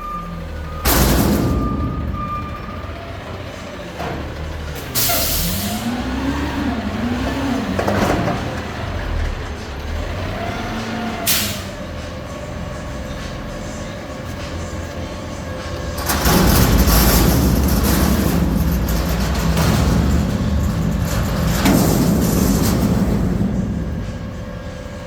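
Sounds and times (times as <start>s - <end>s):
garbage truck engine rumble: 0.0s - 25.0s.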